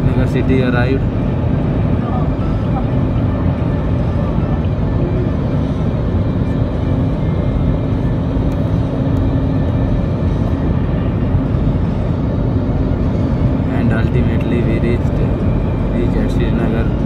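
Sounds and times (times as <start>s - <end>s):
jet engines droning: 0.0s - 17.0s
steady low hum: 0.0s - 17.0s.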